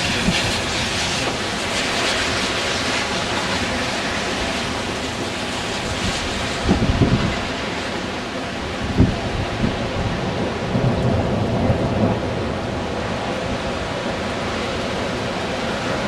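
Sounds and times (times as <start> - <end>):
rain: 0.0 - 16.0
storm wind roaring: 0.0 - 16.0.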